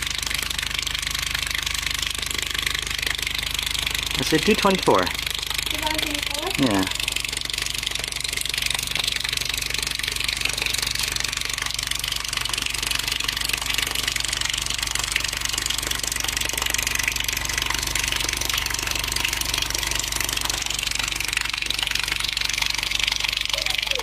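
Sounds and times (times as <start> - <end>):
falling water splashing: 0.0 - 24.0
subwoofer low buzzing drone: 0.0 - 24.0.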